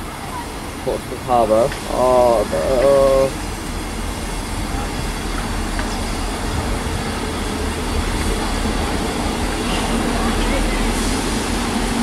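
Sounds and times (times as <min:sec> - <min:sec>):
diesel train engine and wheels: 0:00.0 - 0:12.0.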